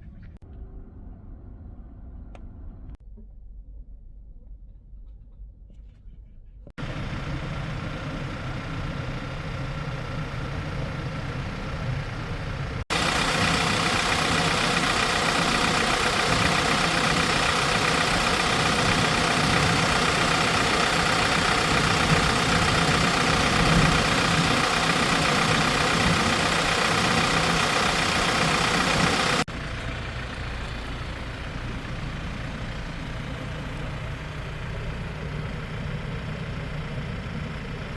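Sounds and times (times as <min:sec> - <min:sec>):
diesel engine idling: 0:06.8 - 0:37.9.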